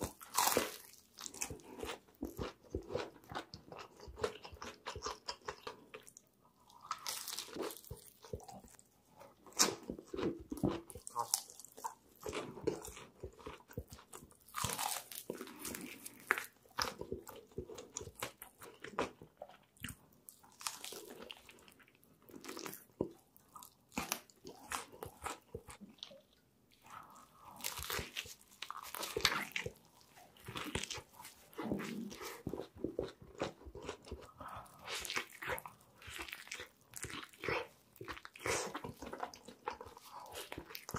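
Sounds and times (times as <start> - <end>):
crunching and chewing fried chicken: 0.0 - 40.9.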